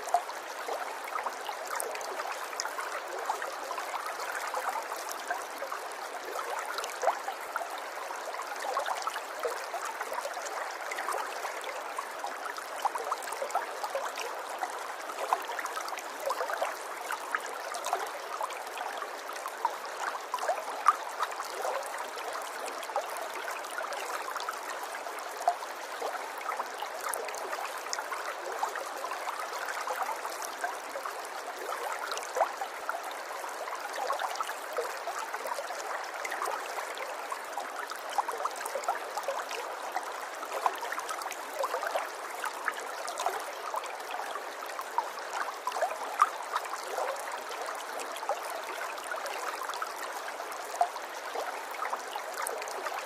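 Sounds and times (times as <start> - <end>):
river water babbling: 0.0 - 53.0.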